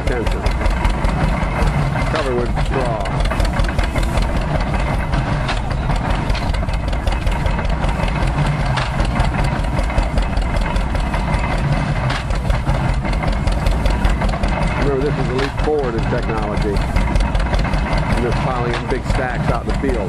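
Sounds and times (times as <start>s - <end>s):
machinery knocks: 0.0s - 20.0s
tractor engine running: 0.0s - 20.0s.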